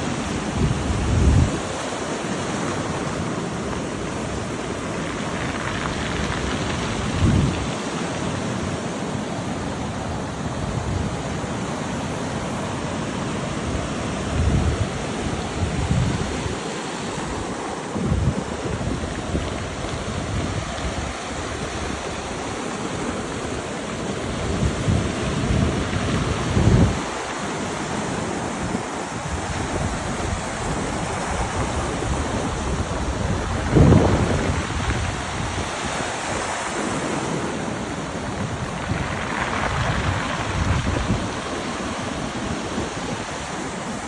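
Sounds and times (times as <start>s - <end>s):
low rumbles of breaking waves: 0.0s - 44.0s
waves washing over pebbles: 0.0s - 44.0s.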